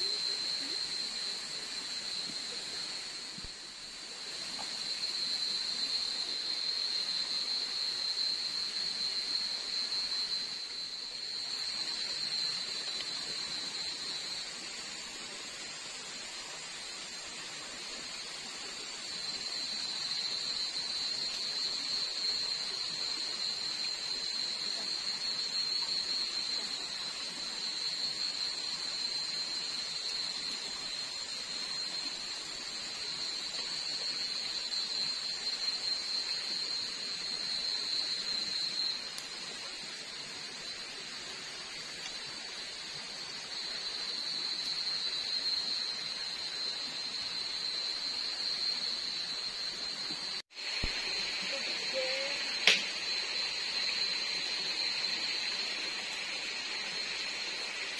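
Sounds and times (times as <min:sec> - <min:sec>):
night insects droning: 0:00.0 - 0:57.9
soft hiss: 0:00.0 - 0:57.9.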